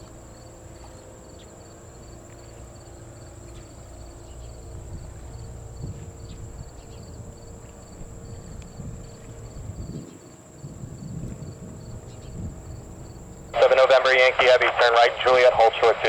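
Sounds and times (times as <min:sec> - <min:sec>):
insect chirps: 0:00.0 - 0:13.6.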